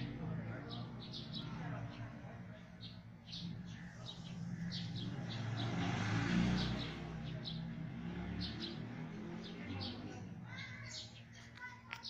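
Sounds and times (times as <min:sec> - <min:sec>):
passing vehicle engine hum: 0:00.0 - 0:10.6
small birds chirping: 0:00.0 - 0:12.0.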